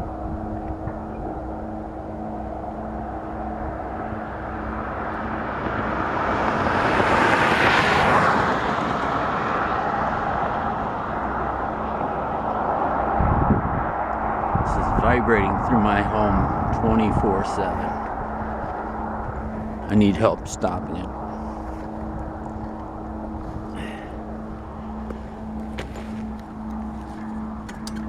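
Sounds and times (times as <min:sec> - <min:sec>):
low hum and rumble: 0:00.0 - 0:28.0
vehicle passing: 0:00.0 - 0:28.0.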